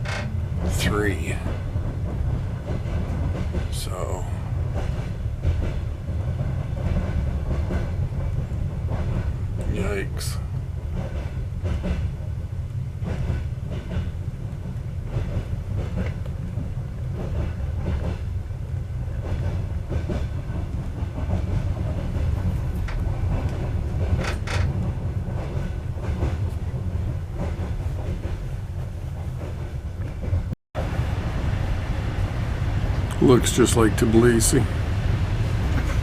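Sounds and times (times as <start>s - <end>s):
wheels clacking over rails: 0.0s - 31.0s, 31.7s - 36.0s
train rumble inside carriage: 0.0s - 36.0s.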